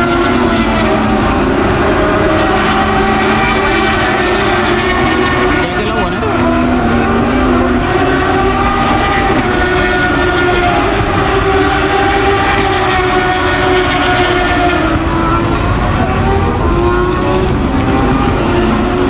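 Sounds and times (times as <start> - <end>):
motorcycle engines droning: 0.0 - 19.0.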